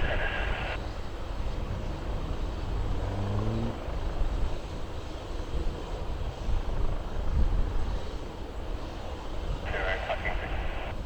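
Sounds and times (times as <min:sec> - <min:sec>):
helicopter engine and rotor rumble: 0:00.0 - 0:02.9, 0:03.8 - 0:11.0.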